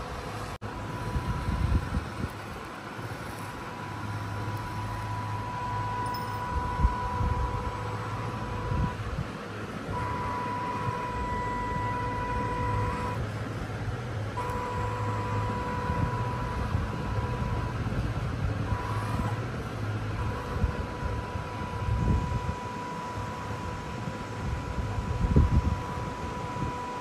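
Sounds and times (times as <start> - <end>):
low hum: 0.0 - 27.0
rc truck motor whine: 0.0 - 27.0.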